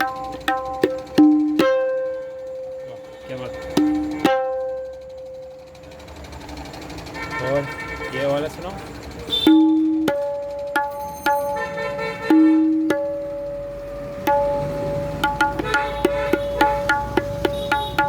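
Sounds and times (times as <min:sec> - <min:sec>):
tabla strokes: 0:00.0 - 0:06.2, 0:09.2 - 0:18.0.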